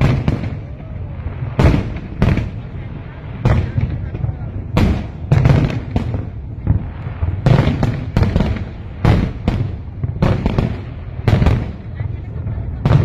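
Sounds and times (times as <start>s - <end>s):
fireworks bangs: 0.0s - 13.0s
low rumble of booms: 0.0s - 13.0s.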